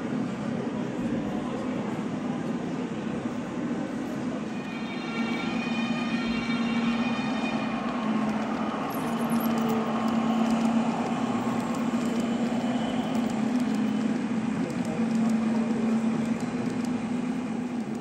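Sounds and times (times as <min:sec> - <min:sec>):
small wheels rumbling on rail: 0:00.0 - 0:18.0.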